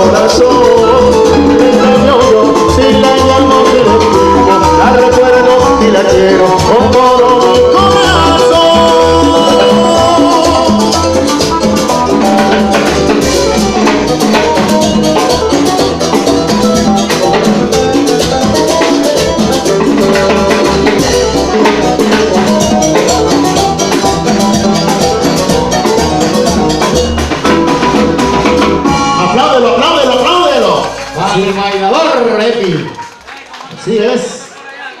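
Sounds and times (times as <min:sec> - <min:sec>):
latin dance band playing: 0:00.0 - 0:35.0.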